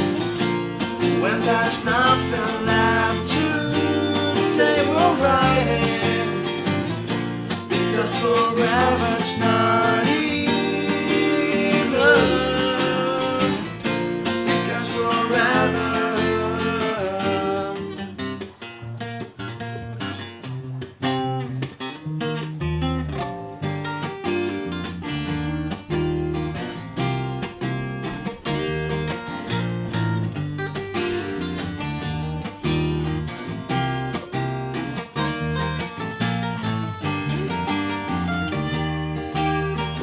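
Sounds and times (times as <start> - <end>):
bass line: 0.0 - 18.0, 22.6 - 40.0
acoustic guitar surf music: 0.0 - 40.0.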